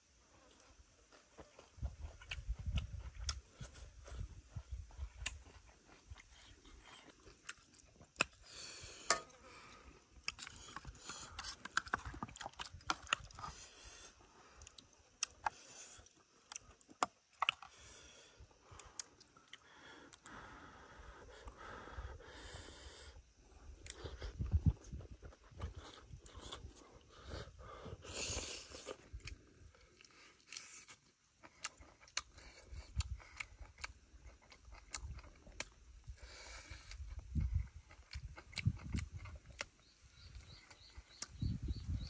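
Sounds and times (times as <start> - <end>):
person chewing: 0.4 - 20.3, 23.6 - 41.8.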